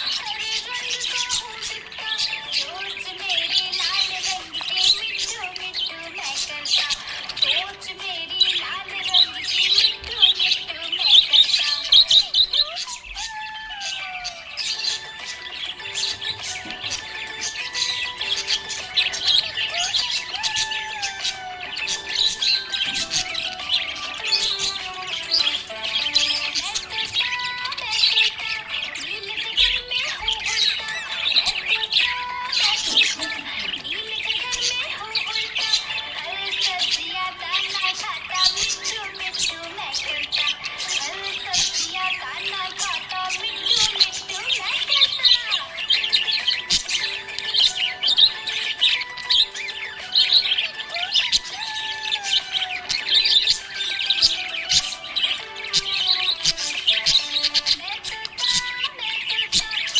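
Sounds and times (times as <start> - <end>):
budgerigars chirping and warbling: 0.0 - 59.9.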